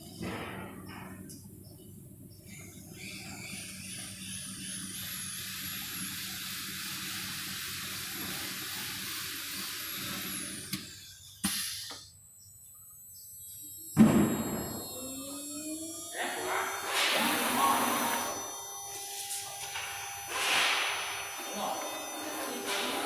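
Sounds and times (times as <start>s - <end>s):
cutting machine whining: 2.6s - 12.0s, 13.0s - 23.0s.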